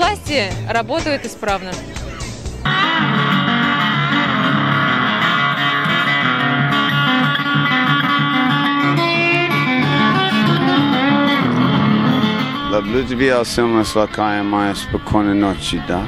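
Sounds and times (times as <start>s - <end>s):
lap steel guitar plucked notes: 0.8s - 16.0s.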